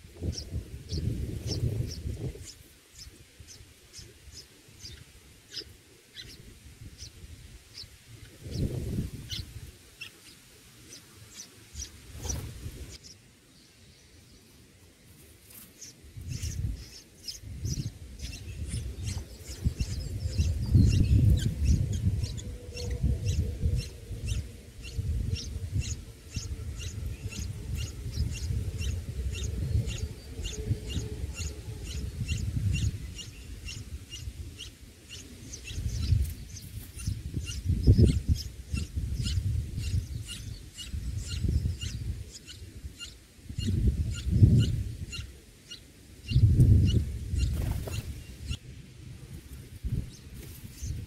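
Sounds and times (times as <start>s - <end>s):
nestlings begging chirps: 0.2s - 13.2s, 15.4s - 48.6s.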